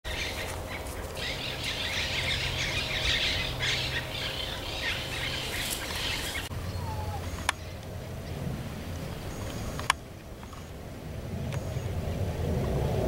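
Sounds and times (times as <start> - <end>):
birds chirping: 0.1 - 10.8
low steady hum: 0.1 - 13.0.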